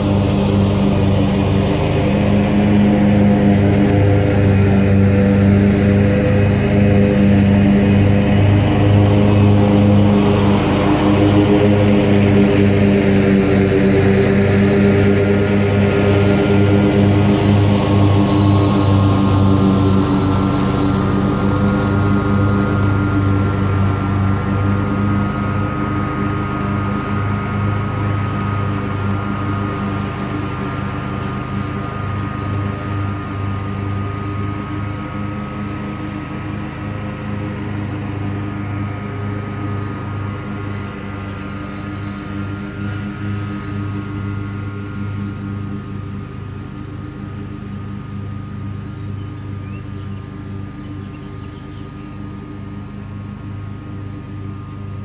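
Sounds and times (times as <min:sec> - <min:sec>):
lawn mower engine running: 0:00.0 - 0:55.0
mower blade whine: 0:00.0 - 0:55.0.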